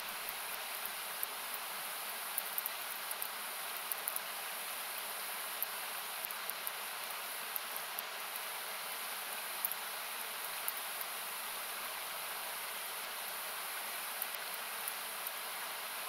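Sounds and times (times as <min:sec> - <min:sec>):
campfire crackles: 0:00.0 - 0:15.5.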